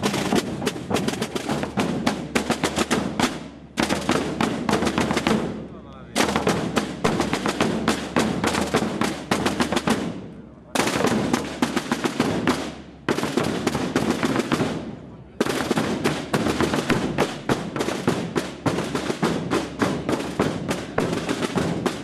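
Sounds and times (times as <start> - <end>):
rapid drumming: 0.0 - 22.0.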